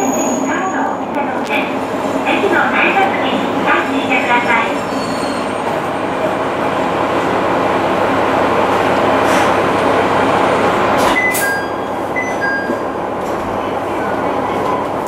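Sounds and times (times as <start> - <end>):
diesel railcar engine running: 0.0 - 15.0.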